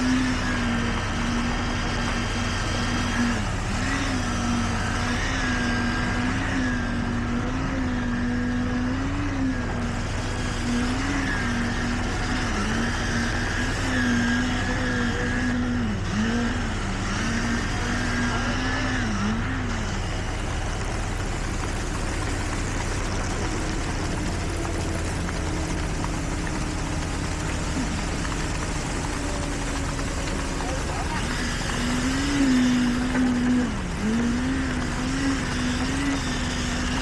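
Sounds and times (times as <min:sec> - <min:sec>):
heavy machinery engine hum: 0:00.0 - 0:37.0.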